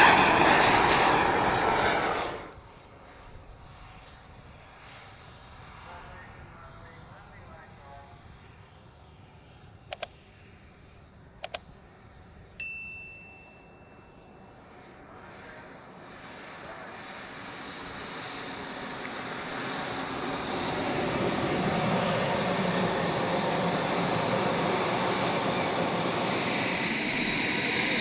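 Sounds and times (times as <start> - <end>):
model jet turbine whine: 0.0 - 28.0.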